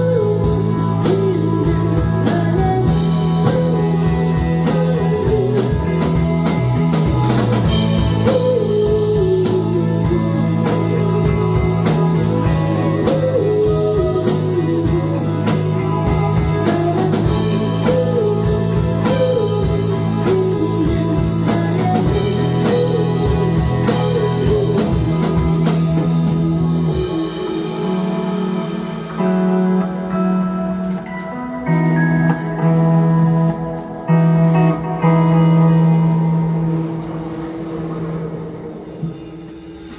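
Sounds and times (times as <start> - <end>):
drums and cymbals: 0.0 - 39.9
live rock band playing: 0.0 - 39.9
wavering lead guitar: 0.0 - 39.9.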